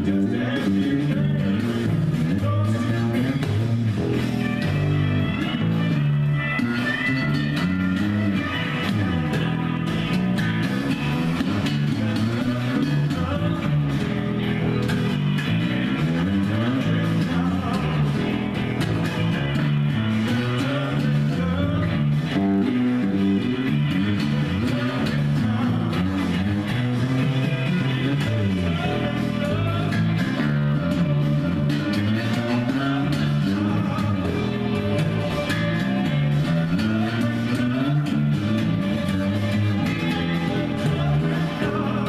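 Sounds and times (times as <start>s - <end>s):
blues-rock guitar music: 0.0s - 42.0s
electric bass line: 0.0s - 42.0s.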